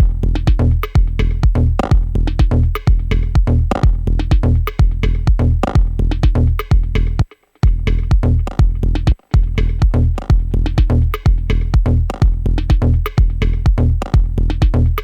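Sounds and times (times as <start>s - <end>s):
crisp hi-hat percussion: 0.0s - 15.0s
drum machine kick drum: 0.0s - 15.0s.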